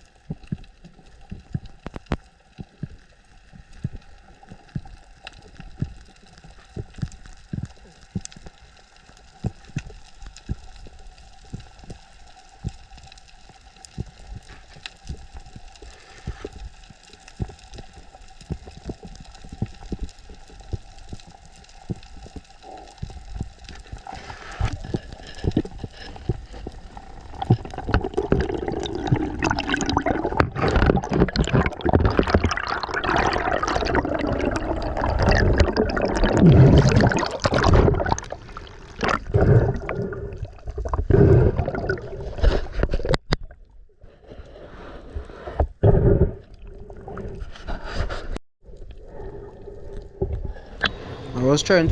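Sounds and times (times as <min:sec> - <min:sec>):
rushing and bubbling water: 0:00.0 - 0:43.2, 0:50.6 - 0:51.9.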